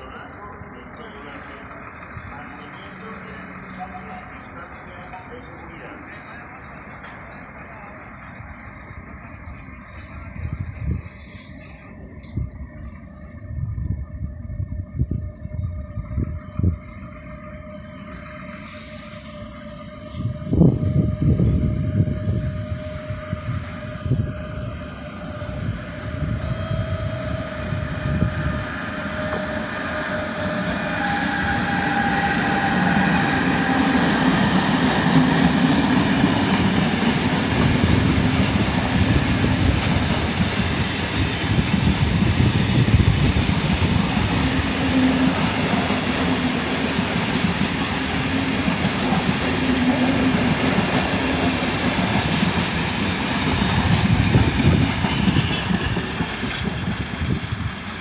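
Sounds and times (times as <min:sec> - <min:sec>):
electric locomotive whine: 0:00.0 - 0:58.0
train wheels rumbling on rails: 0:00.0 - 0:58.0.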